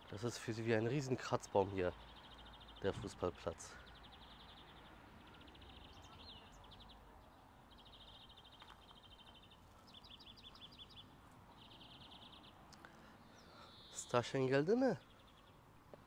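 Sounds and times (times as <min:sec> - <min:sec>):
bird chirping in rapid trills: 0:00.0 - 0:15.6.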